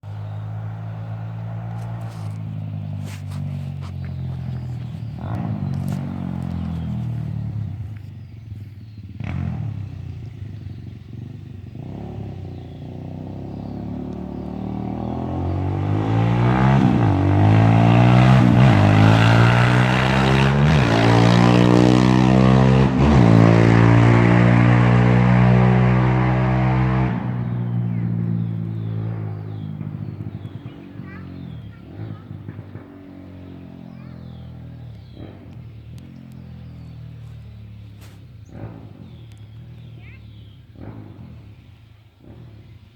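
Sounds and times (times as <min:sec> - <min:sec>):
quad engine revving: 0:00.0 - 0:42.9.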